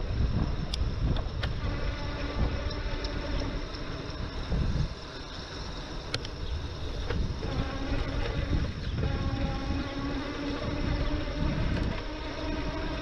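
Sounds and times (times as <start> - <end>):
wind buffeting microphone: 0.0 - 13.0
electric motor whine: 1.2 - 13.0.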